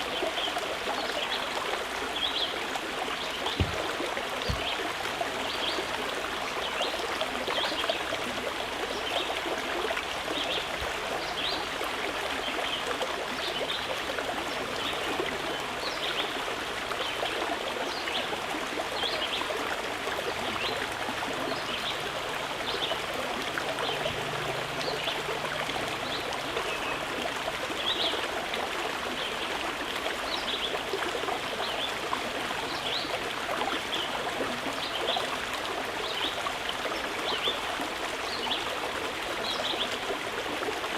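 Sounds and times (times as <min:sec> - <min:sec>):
small stream babbling: 0:00.0 - 0:40.9.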